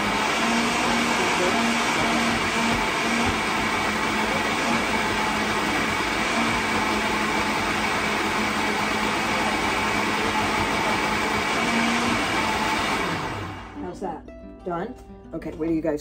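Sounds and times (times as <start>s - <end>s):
blender motor whirring: 0.0s - 13.8s.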